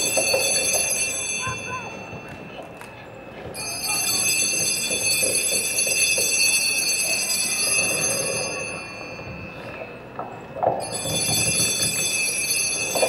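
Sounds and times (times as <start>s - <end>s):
altar bells ringing: 0.0s - 13.0s.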